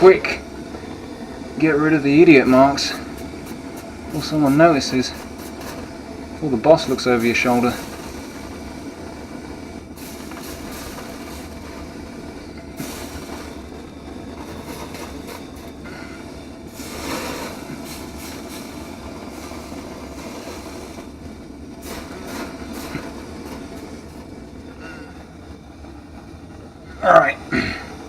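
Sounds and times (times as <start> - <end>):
blowtorch flame rushing: 0.0 - 28.0.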